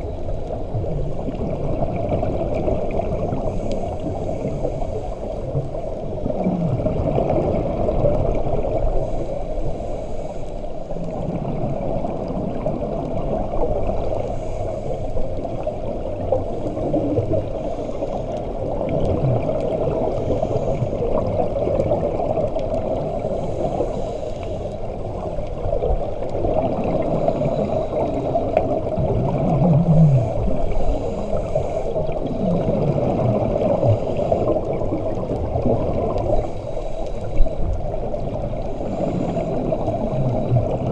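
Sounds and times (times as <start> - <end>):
exhaled air bubbles: 0.0 - 9.9, 10.9 - 40.9
underwater gurgling and rumble: 0.0 - 40.9.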